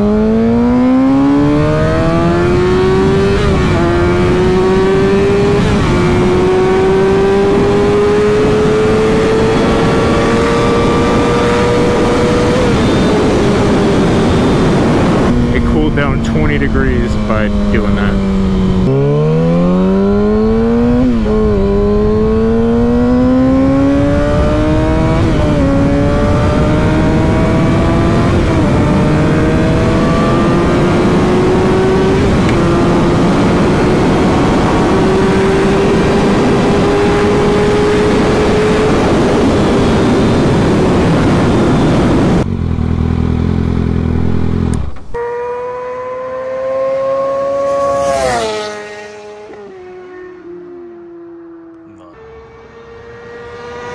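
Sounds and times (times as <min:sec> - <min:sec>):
another engine approaching: 0:00.0 - 0:53.9
motorcycle engine accelerating: 0:00.0 - 0:53.9.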